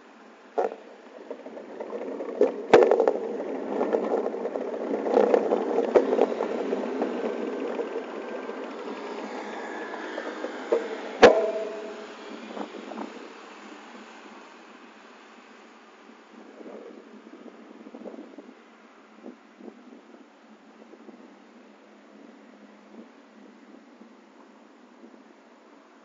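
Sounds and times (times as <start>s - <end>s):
street traffic noise: 0.0s - 26.0s.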